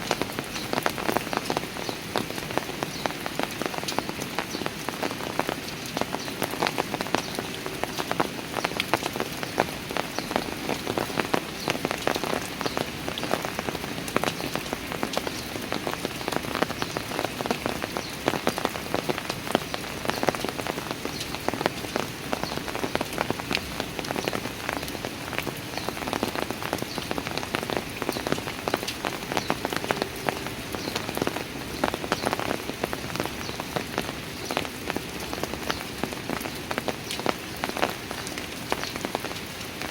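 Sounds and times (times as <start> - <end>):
rain pattering on stairs: 0.0 - 39.9.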